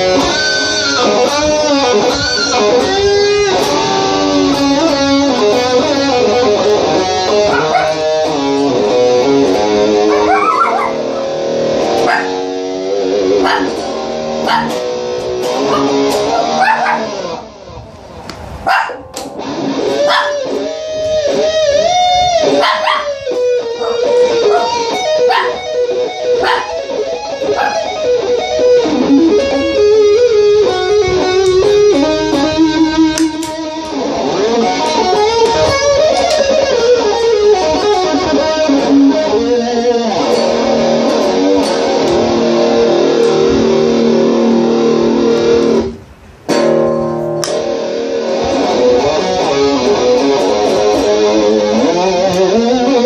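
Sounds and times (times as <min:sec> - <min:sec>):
electric guitar through effects: 0:00.0 - 0:53.0.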